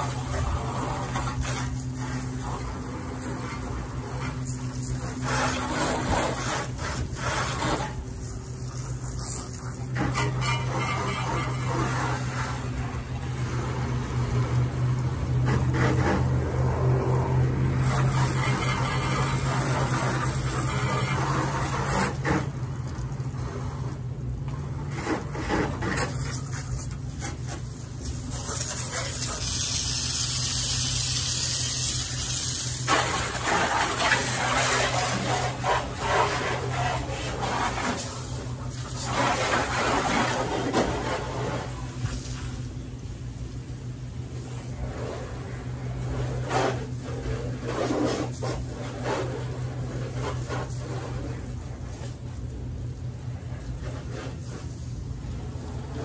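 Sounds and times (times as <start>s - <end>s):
steady low hum: 0.0s - 56.0s
water spraying against truck body: 0.0s - 56.0s.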